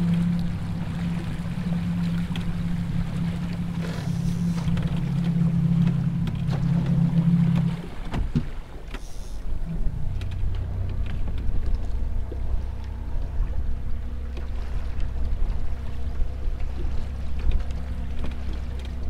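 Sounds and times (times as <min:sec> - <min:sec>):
steady low hum: 0:00.0 - 0:19.0
water slapping boat hull: 0:00.0 - 0:19.0.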